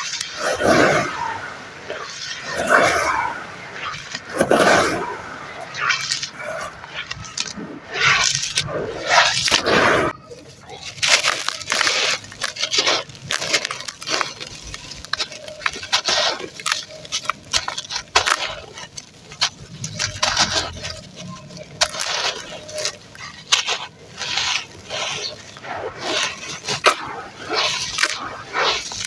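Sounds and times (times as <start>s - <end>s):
sand chunks crunching: 0.0s - 29.0s.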